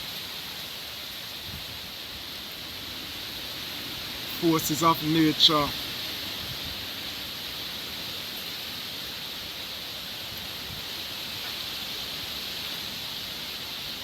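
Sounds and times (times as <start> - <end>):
strong wind blowing through trees: 0.0 - 14.0.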